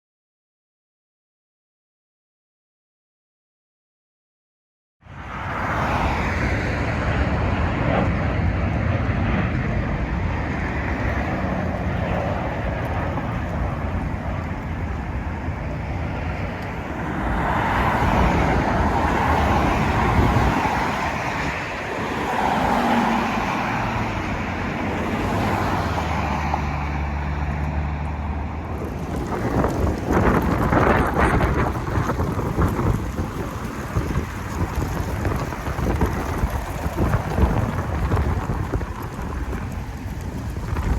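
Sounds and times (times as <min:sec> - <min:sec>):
wind rumbling on microphone: 0:05.0 - 0:40.9
aircraft noise: 0:05.1 - 0:40.9.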